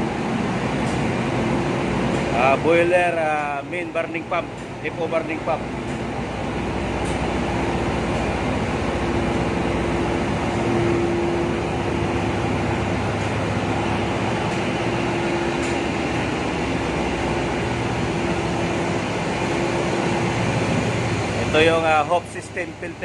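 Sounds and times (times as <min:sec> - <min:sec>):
constant hum tone: 0:00.0 - 0:23.0
engine room machinery drone: 0:00.0 - 0:23.0.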